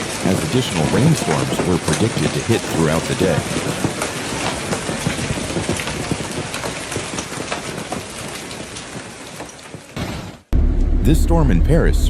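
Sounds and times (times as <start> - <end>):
heavy rain hissing: 0.0 - 9.9
raindrop ticks: 0.0 - 10.0.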